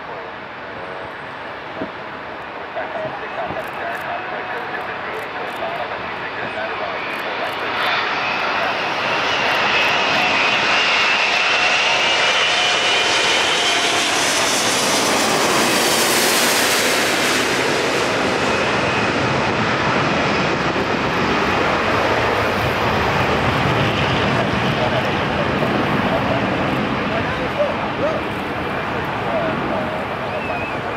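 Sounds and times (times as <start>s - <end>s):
airliner jet noise overhead: 0.0s - 30.9s.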